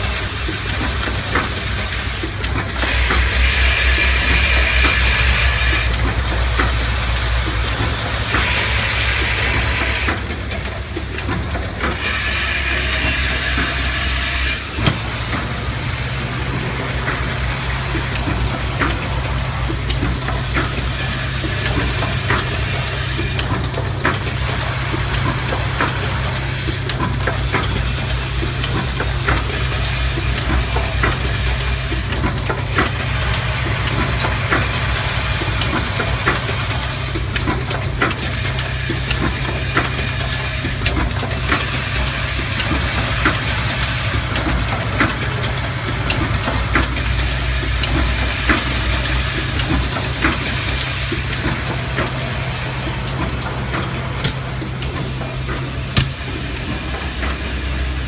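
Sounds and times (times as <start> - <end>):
machine hiss: 0.0 - 58.0
machine humming: 0.0 - 58.0.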